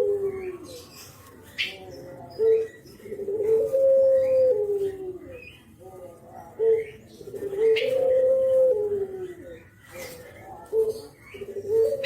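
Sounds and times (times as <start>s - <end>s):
dove cooing: 0.0s - 12.0s
small birds chirping: 0.0s - 12.0s.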